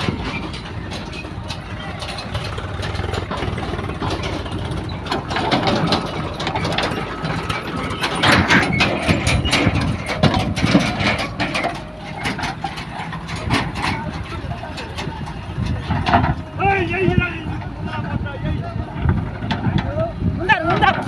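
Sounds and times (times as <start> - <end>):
diesel engine running: 0.0 - 21.0
knocks and clatter: 0.0 - 21.0.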